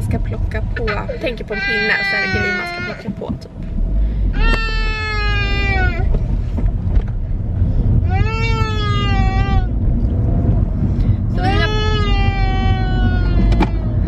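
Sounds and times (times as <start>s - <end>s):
road rumble inside car: 0.0s - 14.0s.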